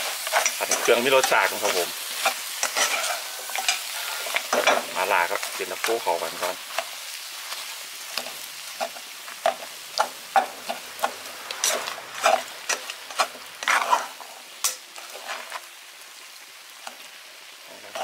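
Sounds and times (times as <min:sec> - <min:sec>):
spatula scraping a pan: 0:00.0 - 0:04.9, 0:05.5 - 0:15.7, 0:17.7 - 0:18.0
food sizzling in a wok: 0:00.0 - 0:18.0.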